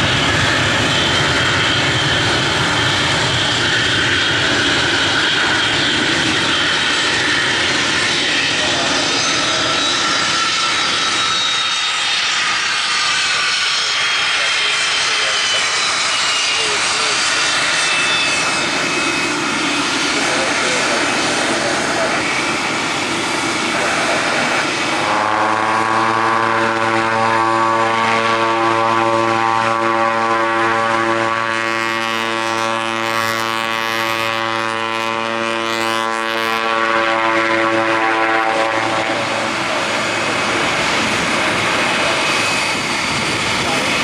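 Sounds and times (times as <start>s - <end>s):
propeller drone: 0.0s - 44.0s
turboprop engines running: 0.0s - 44.0s.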